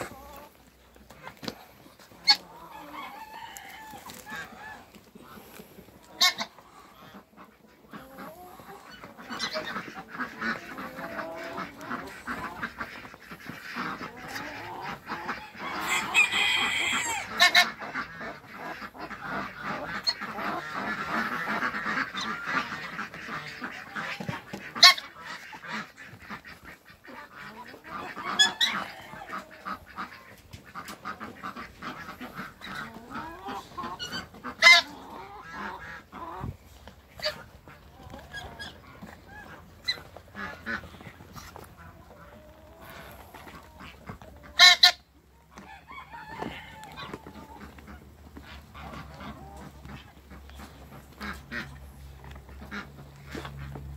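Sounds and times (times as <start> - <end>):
farmyard fowl calling: 0.0 - 53.9
geese honking: 0.0 - 53.9.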